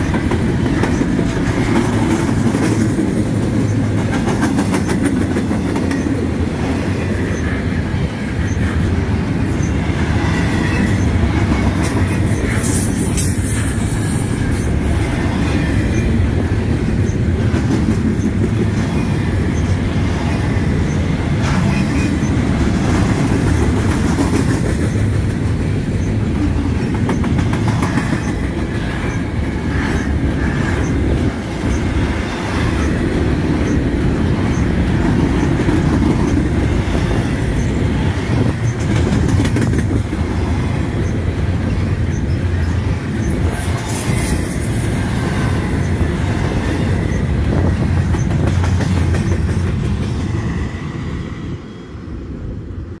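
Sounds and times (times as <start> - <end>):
train wheels clicking: 0.0 - 50.9
freight train rumbling past: 0.0 - 53.0.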